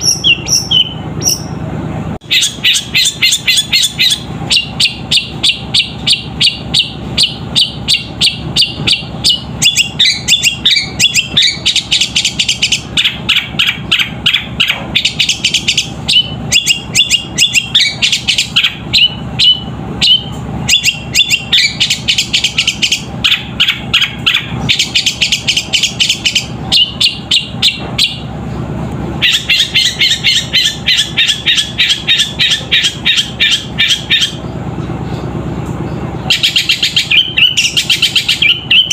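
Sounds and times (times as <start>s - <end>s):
bird chattering sharp chirps: 0.0s - 1.6s, 2.2s - 28.3s, 29.2s - 38.9s
low steady hum: 0.0s - 38.9s.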